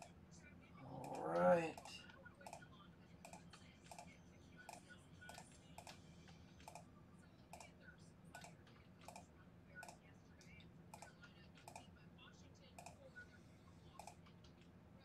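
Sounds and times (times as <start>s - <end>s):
faint computer keyboard typing: 0.9s - 12.0s, 12.7s - 13.1s, 13.9s - 14.7s.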